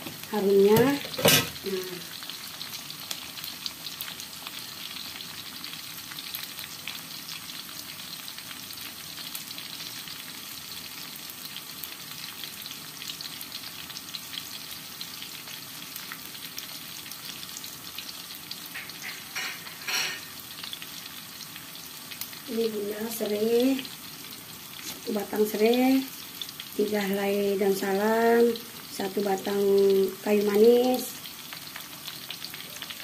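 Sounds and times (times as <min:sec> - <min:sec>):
garlic and onion sizzling in oil: 0:00.0 - 0:33.0.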